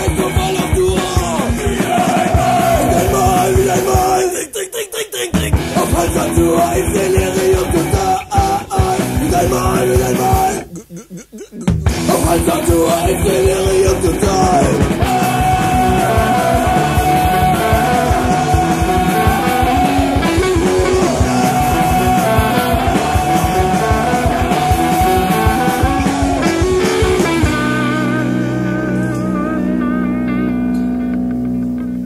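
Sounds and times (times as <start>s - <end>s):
electric guitar: 0.0s - 4.2s, 5.4s - 32.0s
fast drumming: 0.0s - 4.4s, 5.2s - 28.2s.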